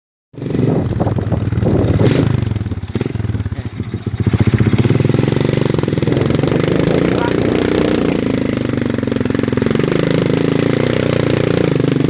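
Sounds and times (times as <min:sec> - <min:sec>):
motorcycle engine at low revs: 0:00.4 - 0:12.0.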